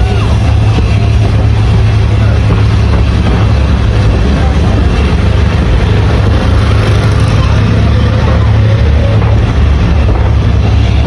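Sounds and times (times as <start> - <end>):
locomotive engine droning: 0.0 - 11.0.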